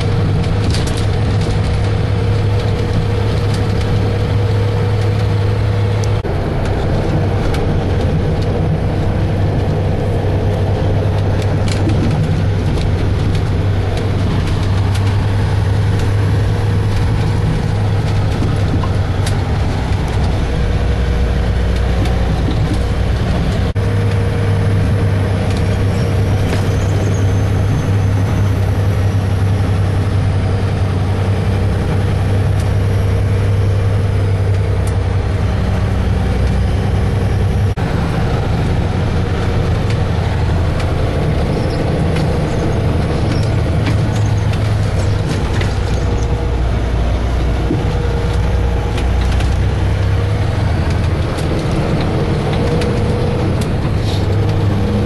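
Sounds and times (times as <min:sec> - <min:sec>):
diesel truck engine running: 0:00.0 - 0:55.0
road noise on gravel: 0:00.0 - 0:55.0.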